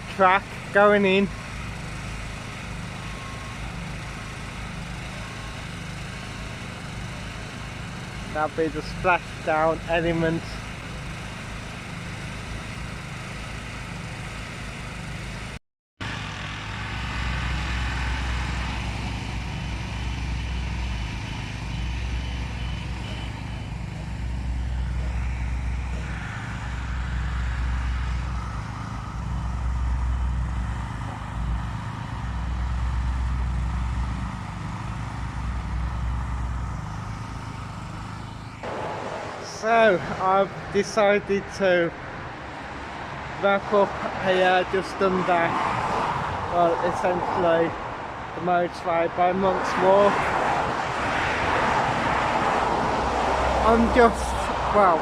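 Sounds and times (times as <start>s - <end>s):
heavy vehicles passing: 0.0s - 55.0s
motorway traffic noise: 0.0s - 55.0s.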